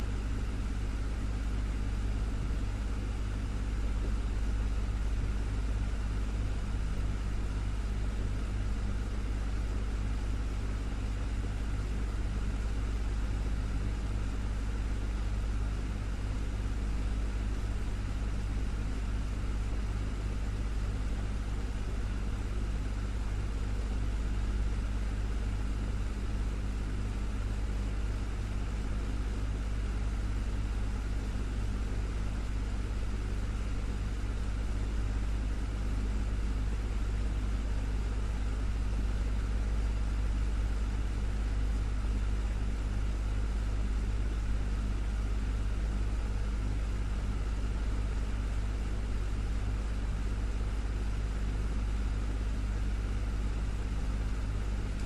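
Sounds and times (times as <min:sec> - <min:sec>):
desktop fan whirring: 0:00.0 - 0:55.0.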